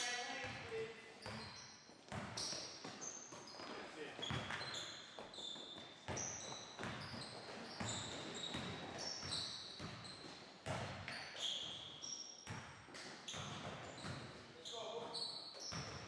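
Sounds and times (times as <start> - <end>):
sneaker squeaks: 1.2 - 16.0.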